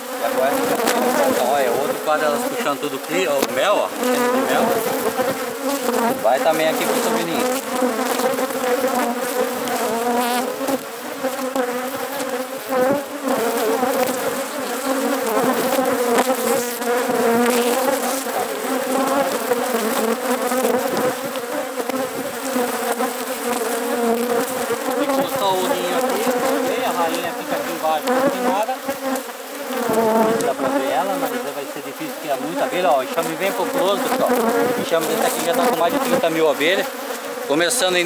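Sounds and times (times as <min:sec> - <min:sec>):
bees buzzing in a swarm: 0:00.0 - 0:38.0.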